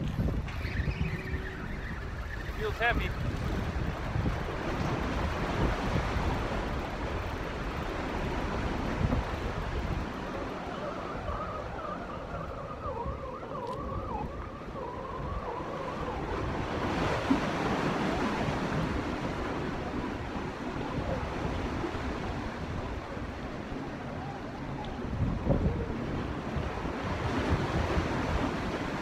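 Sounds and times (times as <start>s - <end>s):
surf rushing: 0.0s - 29.0s
wind: 0.0s - 29.0s
faint wavering tone: 0.3s - 5.5s, 6.2s - 29.0s.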